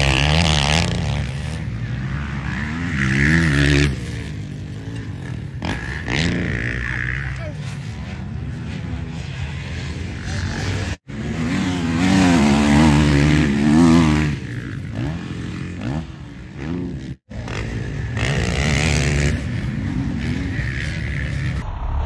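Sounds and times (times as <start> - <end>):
motocross bikes revving: 0.0 - 21.6.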